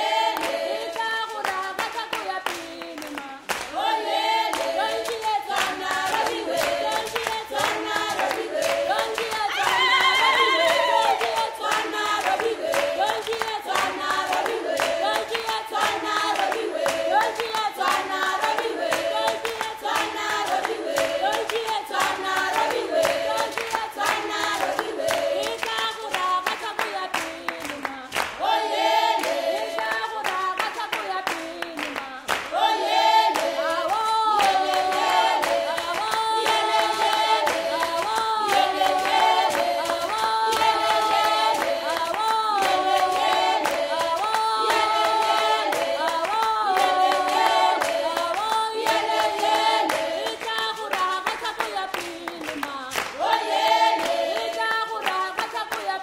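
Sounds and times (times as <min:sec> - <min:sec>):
choir singing a cappella: 0:00.0 - 0:56.0
rhythmic hand clapping: 0:00.0 - 0:56.0.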